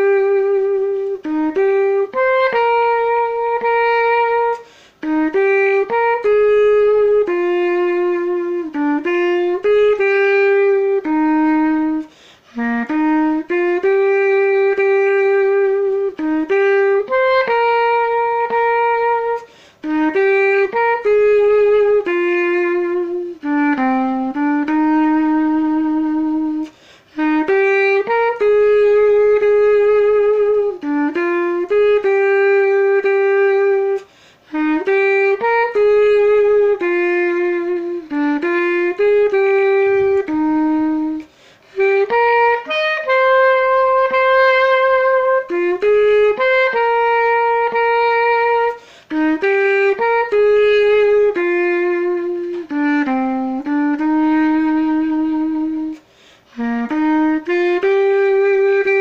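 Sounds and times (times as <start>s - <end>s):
solo clarinet playing hymn: 0.0s - 59.0s.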